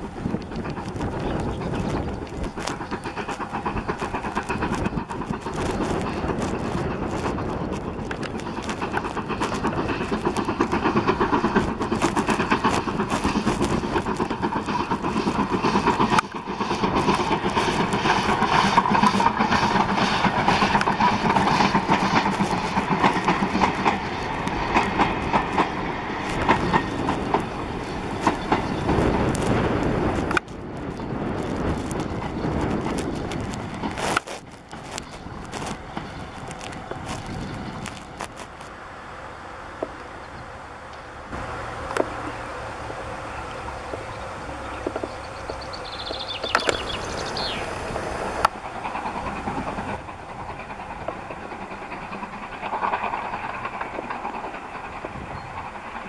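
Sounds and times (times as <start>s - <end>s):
steam locomotive exhaust beats: 0.0s - 56.0s
train wheels on rails: 0.0s - 56.0s.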